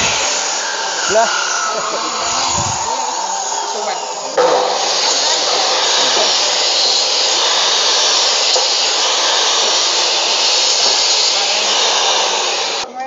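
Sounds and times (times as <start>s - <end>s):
electric saw cutting bone: 0.0s - 12.9s.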